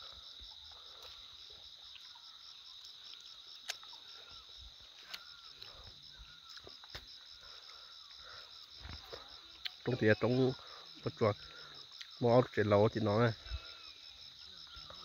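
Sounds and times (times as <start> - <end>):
insect chorus buzzing and trilling: 0.0 - 15.0.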